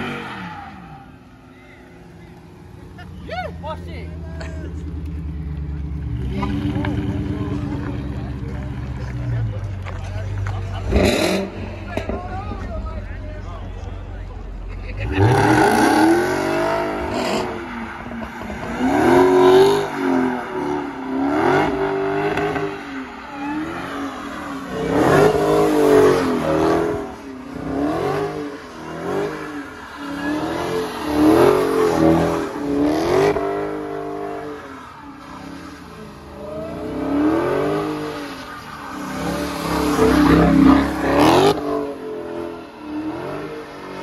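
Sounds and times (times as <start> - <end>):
tyres spinning on asphalt: 0.0 - 44.0
car engine revving: 3.6 - 44.0.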